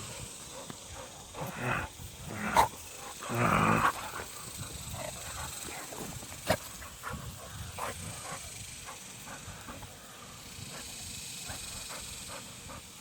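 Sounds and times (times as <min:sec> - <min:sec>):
dogs growling: 0:00.0 - 0:13.0.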